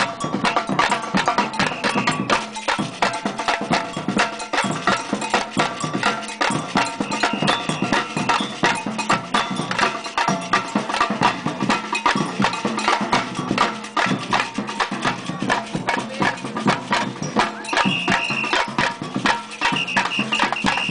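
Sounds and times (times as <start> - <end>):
samba percussion ensemble: 0.0 - 20.9.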